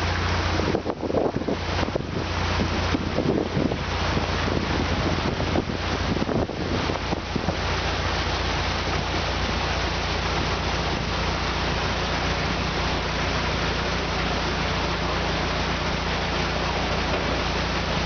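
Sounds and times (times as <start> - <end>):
boat engine humming: 0.0 - 18.0
rushing water noise: 0.0 - 18.0.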